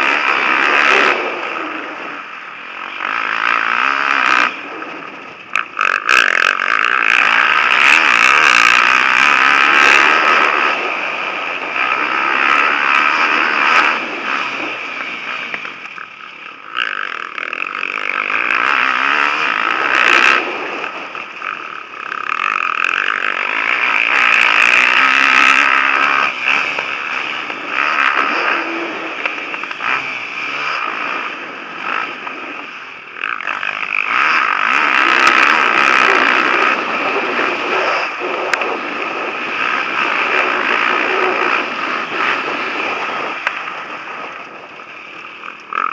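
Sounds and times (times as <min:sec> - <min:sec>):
motocross motorcycles racing: 0:00.0 - 0:45.9.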